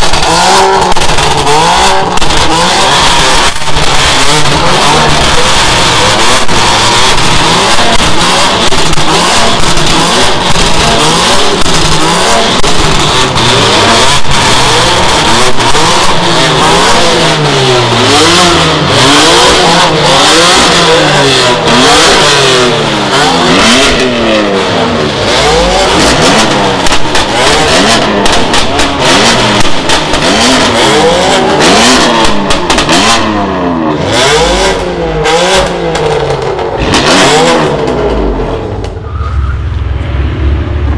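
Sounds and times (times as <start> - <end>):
exhaust pops and crackles: 0.0 - 39.0
car engine revving: 0.0 - 40.9.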